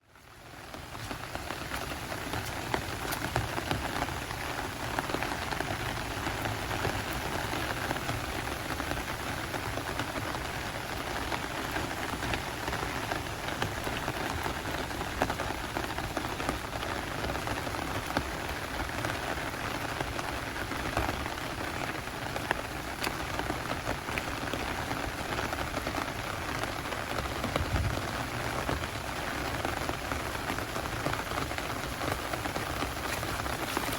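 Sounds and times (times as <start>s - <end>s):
heavy rain downpour: 0.0s - 33.9s
raindrop ticks: 0.2s - 33.9s.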